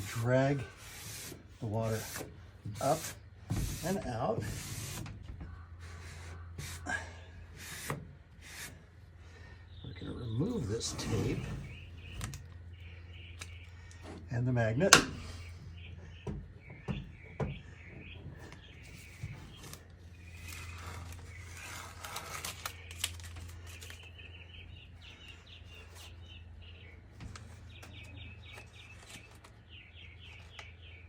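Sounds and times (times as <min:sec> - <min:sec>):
low steady hum: 0:00.0 - 0:31.0
small birds chirping: 0:00.0 - 0:31.0.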